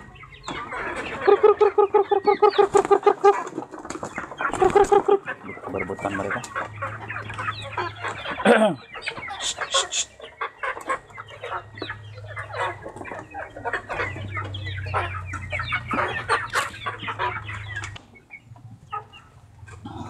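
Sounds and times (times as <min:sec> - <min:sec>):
chicken squawk: 0:00.0 - 0:18.1
chickens clucking and squabbling: 0:00.0 - 0:20.0.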